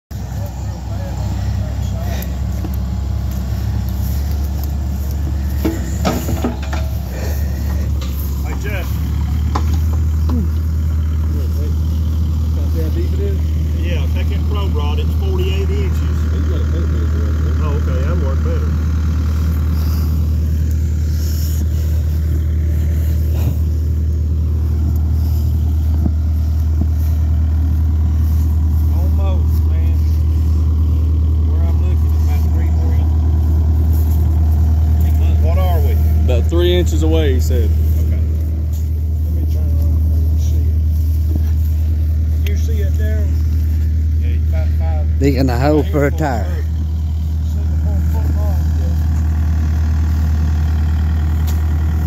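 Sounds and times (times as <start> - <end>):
excavator diesel engine running: 0.1 - 52.0.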